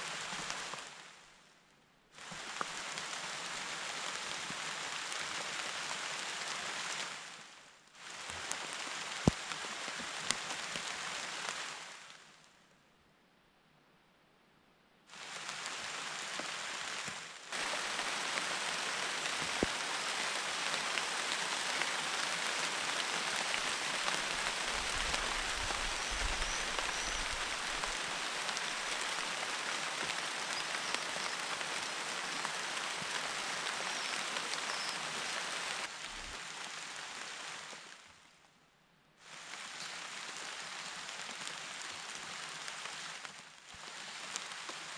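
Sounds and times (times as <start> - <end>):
rain falling on leaves: 0.0 - 1.5, 2.1 - 12.7, 15.1 - 38.5, 39.2 - 44.9.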